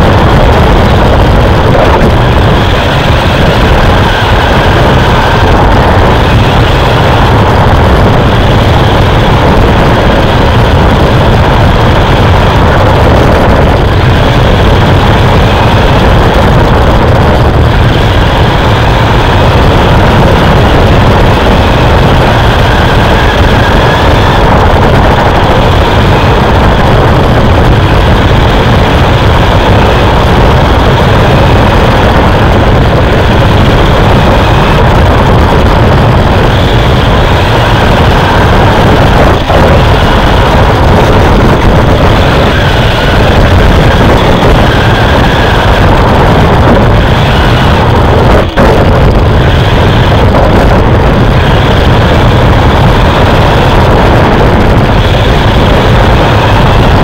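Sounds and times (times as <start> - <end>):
faint whine rising and falling: 0.0 - 57.0
racing truck engine rumble: 0.0 - 57.0.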